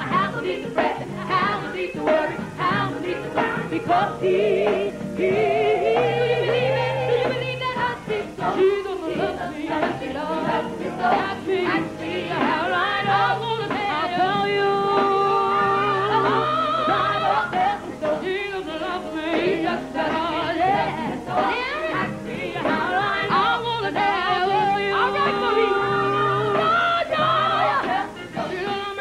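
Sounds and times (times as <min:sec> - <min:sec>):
instrumental accompaniment: 0:00.0 - 0:29.0
women's gospel group singing: 0:00.0 - 0:29.0.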